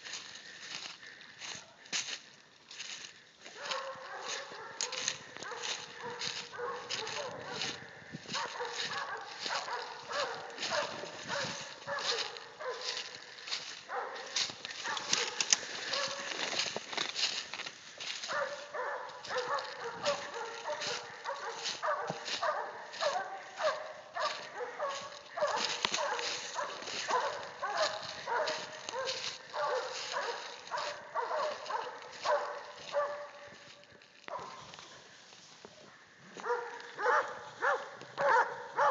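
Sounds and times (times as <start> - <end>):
dry leaves crunching underfoot: 0.0 - 35.8
dogs barking: 3.4 - 34.8, 36.3 - 38.9.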